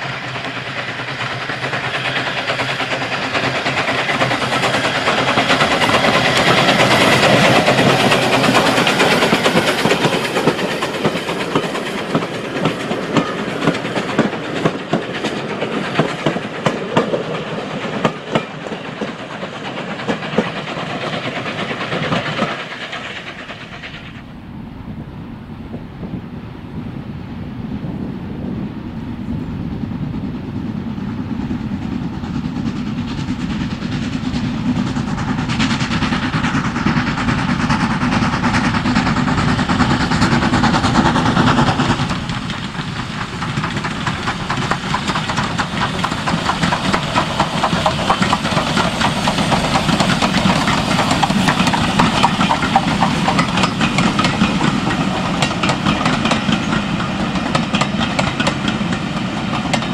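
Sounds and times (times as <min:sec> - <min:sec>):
train wheels clattering over rail joints: 0:00.0 - 0:24.2, 0:31.0 - 0:59.9
steam locomotive passing: 0:00.0 - 0:59.9.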